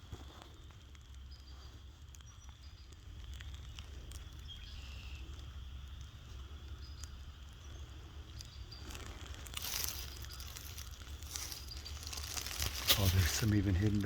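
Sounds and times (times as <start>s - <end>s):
leaves and twigs crunching: 0.0s - 14.0s.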